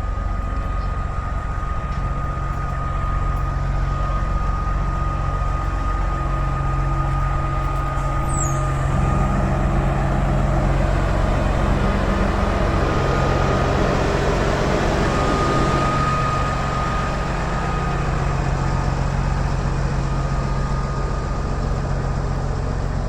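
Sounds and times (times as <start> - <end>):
diesel truck engine running: 0.0 - 23.0
high whine: 0.0 - 23.0.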